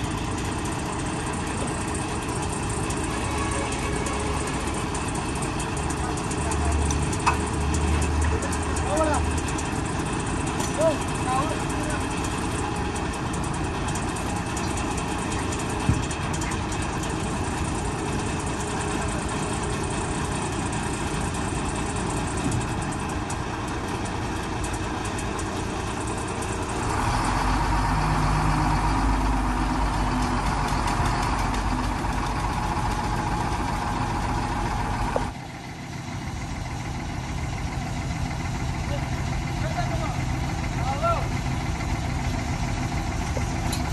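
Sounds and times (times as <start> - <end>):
heavy engine idling: 0.0 - 43.9.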